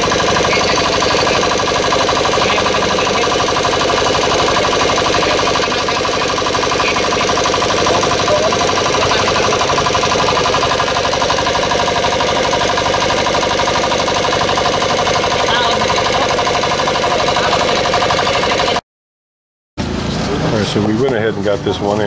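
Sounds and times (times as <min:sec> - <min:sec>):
small diesel engine running: 0:00.0 - 0:18.8, 0:19.8 - 0:22.0.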